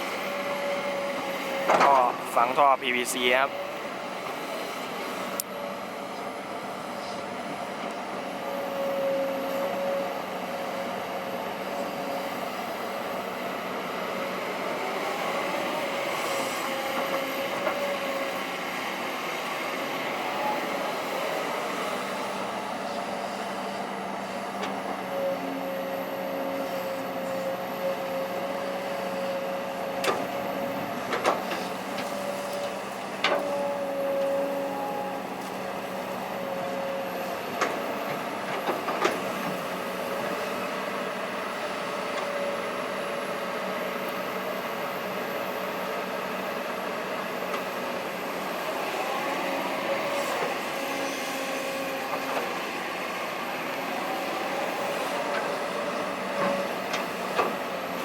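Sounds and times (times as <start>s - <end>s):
excavator high whine: 0.0s - 58.0s.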